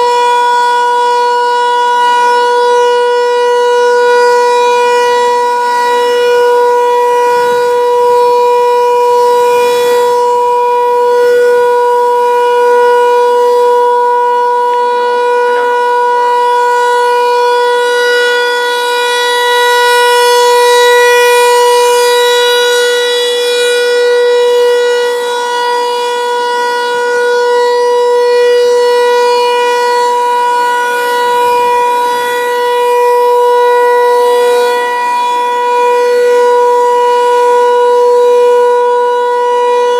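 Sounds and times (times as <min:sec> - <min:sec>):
tornado warning siren: 0:00.0 - 0:39.9.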